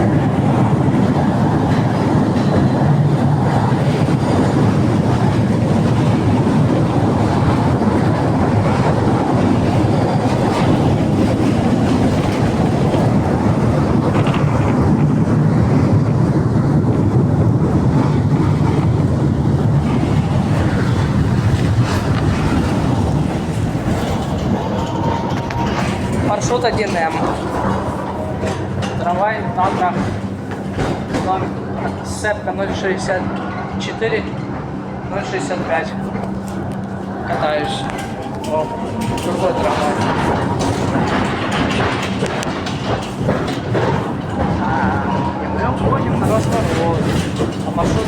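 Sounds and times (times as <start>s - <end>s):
tram wheels rumbling on rails: 0.0s - 48.0s.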